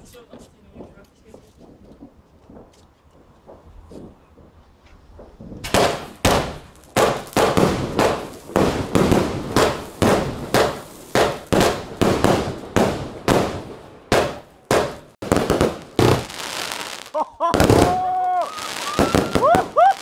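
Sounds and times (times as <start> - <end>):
firework bangs: 0.0 - 20.0.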